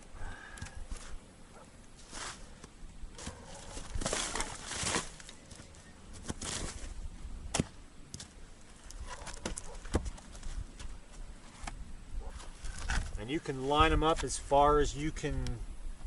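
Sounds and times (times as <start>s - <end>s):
firewood rustling and scraping: 0.6s - 1.2s, 1.8s - 14.5s.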